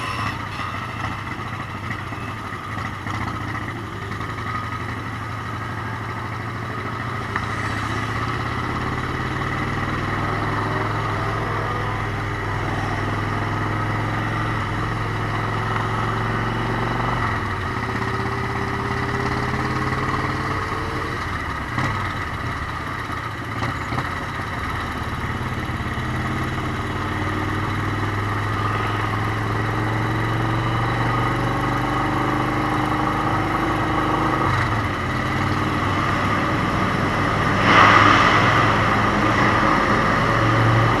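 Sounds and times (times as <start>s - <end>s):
motorcycle engine droning: 0.0s - 41.0s.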